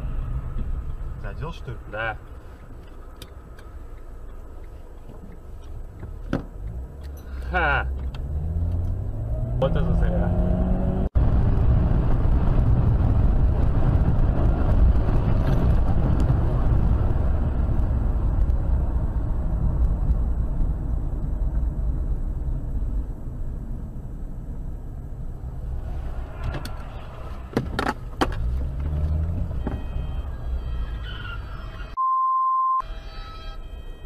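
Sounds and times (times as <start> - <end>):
car road and engine noise: 0.0 - 32.1, 32.8 - 34.0.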